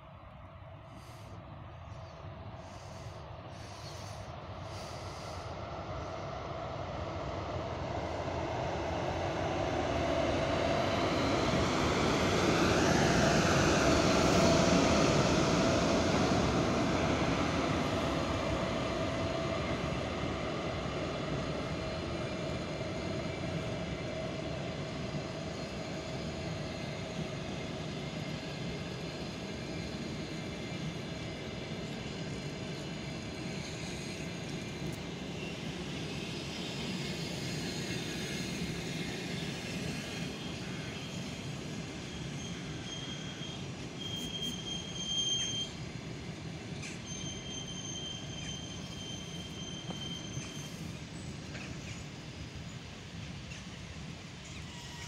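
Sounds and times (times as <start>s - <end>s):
electric locomotive humming: 0.0s - 55.0s.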